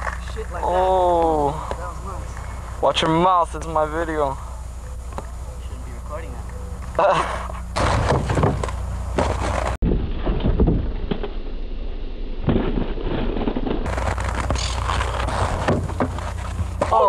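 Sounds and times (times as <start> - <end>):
skate wheels rolling on concrete: 0.0 - 9.8, 12.7 - 17.0.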